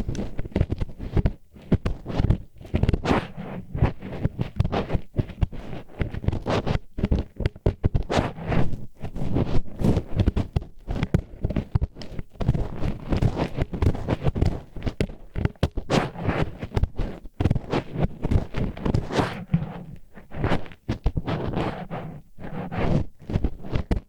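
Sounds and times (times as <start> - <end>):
wooden chopsticks scraping microphone: 0.1 - 10.4, 11.3 - 24.0.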